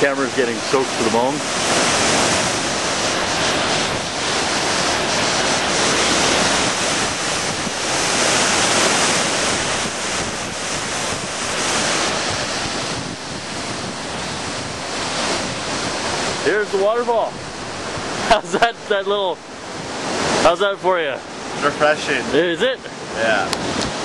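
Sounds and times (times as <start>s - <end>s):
wind on microphone: 0.0s - 20.6s, 22.9s - 24.0s
waterfall rushing: 0.0s - 24.0s.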